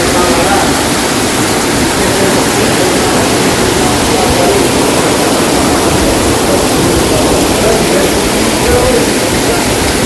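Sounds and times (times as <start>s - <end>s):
torrential rain pouring: 0.0s - 10.0s.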